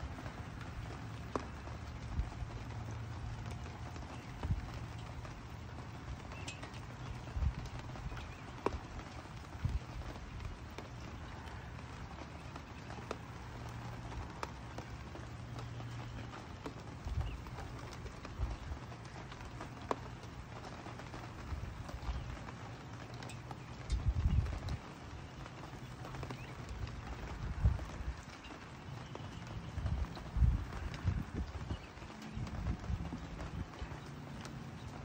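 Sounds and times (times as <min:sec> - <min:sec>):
rain pattering on wood: 0:00.0 - 0:35.0.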